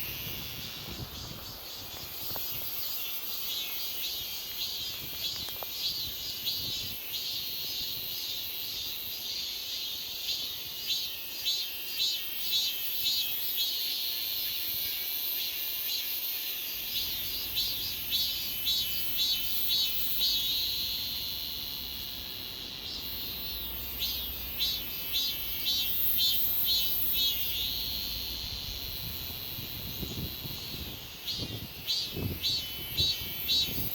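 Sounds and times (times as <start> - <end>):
cicadas singing: 0.0 - 33.9.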